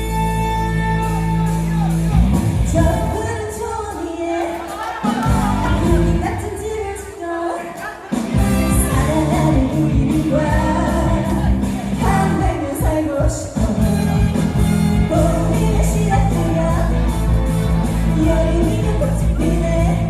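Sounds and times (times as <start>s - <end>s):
amplified backing track: 0.0s - 20.0s
woman singing: 2.7s - 20.0s.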